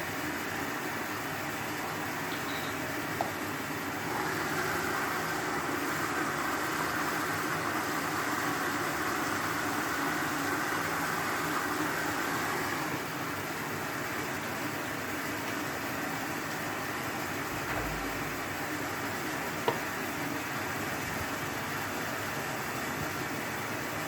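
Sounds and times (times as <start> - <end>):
washing machine whooshing hum: 0.0 - 24.0.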